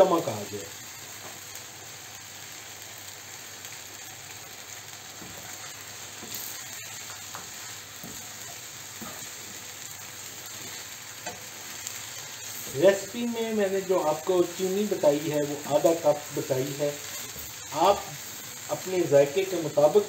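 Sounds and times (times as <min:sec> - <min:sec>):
food sizzling in frying pan: 0:00.0 - 0:20.0.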